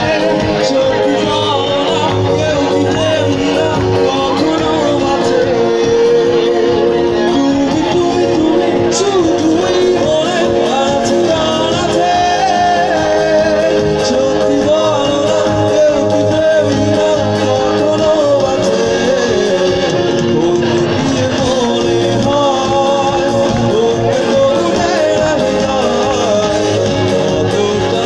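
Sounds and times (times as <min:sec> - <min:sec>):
guitar: 0:00.0 - 0:28.0
keyboard: 0:00.0 - 0:28.0
person singing: 0:00.0 - 0:28.0.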